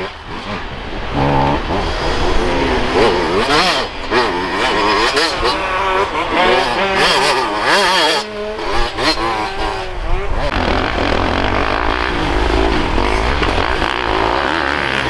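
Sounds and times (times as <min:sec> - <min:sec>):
dirt bike engine revving past: 0:00.0 - 0:15.0
second dirt bike passing close: 0:00.0 - 0:15.0.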